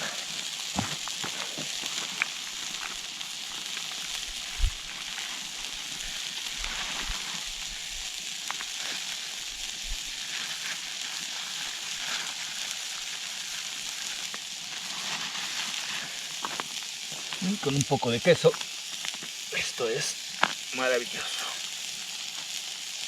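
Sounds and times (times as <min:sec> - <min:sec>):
fire crackles: 0:00.0 - 0:23.0
food sizzling over embers: 0:00.0 - 0:23.0.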